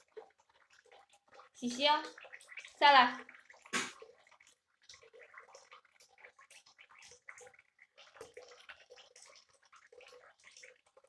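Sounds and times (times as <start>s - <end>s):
tap water trickling into basin: 0.0s - 11.0s.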